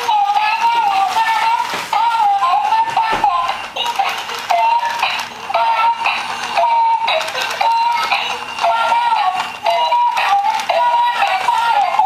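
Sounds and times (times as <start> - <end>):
toy playing electronic tune: 0.0 - 12.0.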